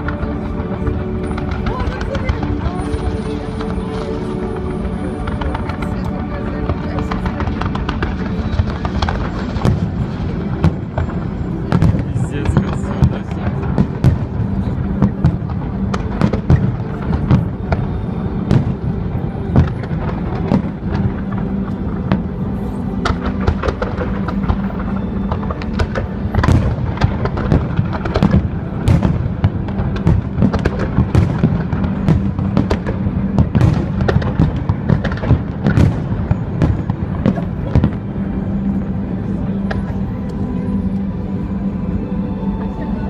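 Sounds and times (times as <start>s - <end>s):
fireworks bursts and crackling bangs: 0.0s - 41.9s.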